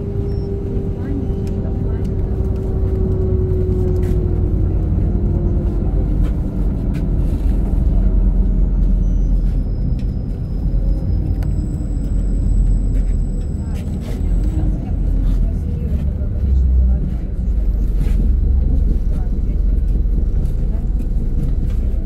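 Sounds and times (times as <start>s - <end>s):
bus engine and road rumble: 0.0s - 22.0s
engine whine: 0.0s - 22.0s.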